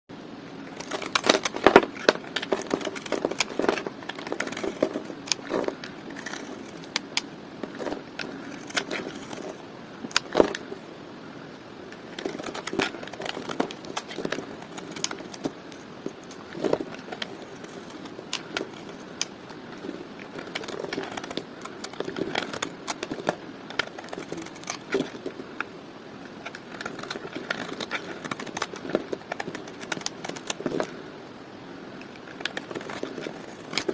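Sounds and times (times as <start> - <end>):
soap cracking under blade: 0.8 - 10.7, 12.0 - 25.3, 26.4 - 30.9, 32.0 - 33.9.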